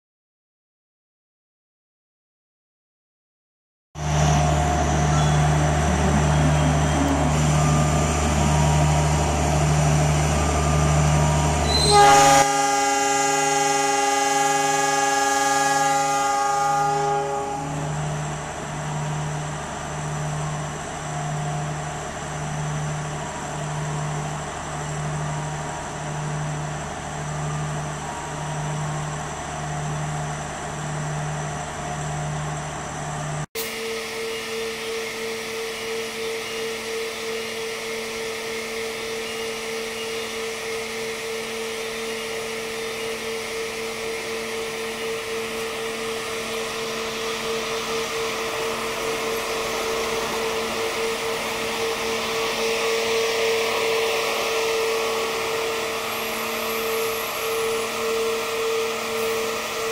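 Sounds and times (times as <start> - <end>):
locomotive engine hum and whine: 4.0 - 59.9.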